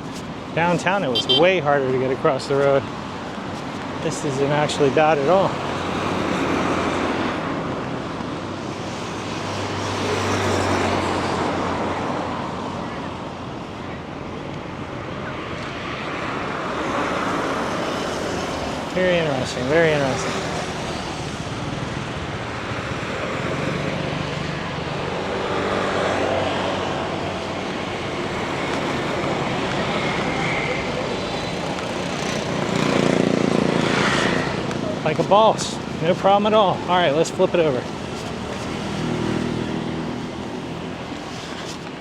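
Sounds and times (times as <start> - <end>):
passing vehicles rushing: 0.0 - 42.0
road noise: 0.0 - 42.0.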